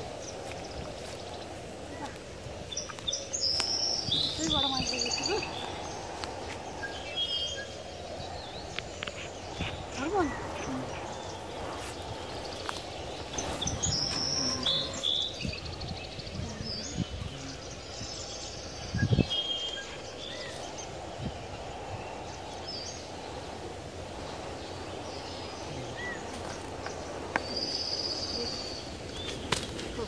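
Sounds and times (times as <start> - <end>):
outdoor background hiss: 0.0 - 30.0
small birds chirping: 0.0 - 30.0.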